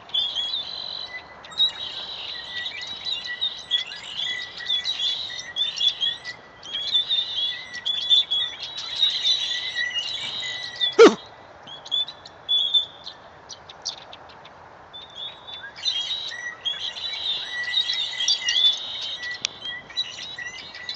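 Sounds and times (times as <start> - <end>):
flock of birds chattering: 0.0 - 20.9.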